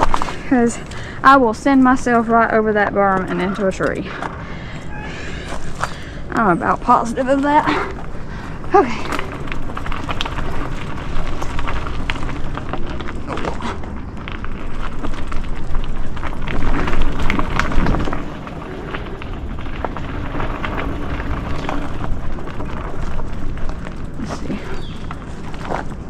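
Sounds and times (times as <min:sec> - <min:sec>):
bike clattering over bumps: 0:00.0 - 0:26.0
bike tyres rumbling on dirt: 0:00.0 - 0:26.0.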